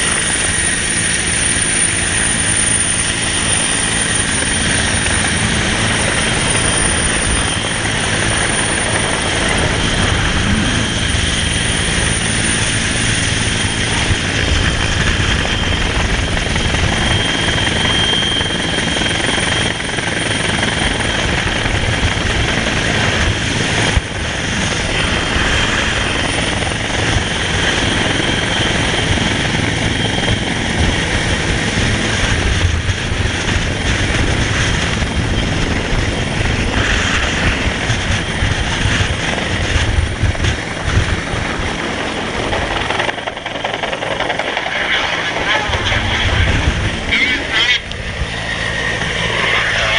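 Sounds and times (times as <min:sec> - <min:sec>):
helicopter hovering overhead: 0:00.0 - 0:49.9.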